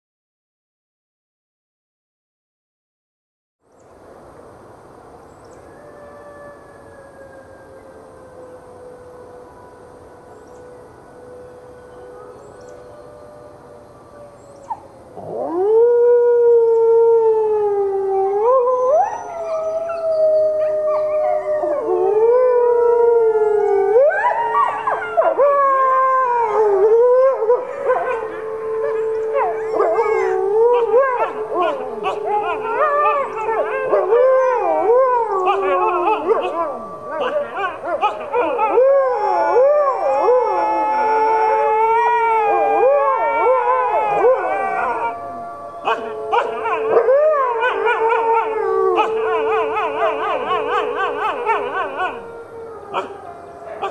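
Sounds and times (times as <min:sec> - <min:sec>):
wolves howling in chorus: 0:05.6 - 0:53.9.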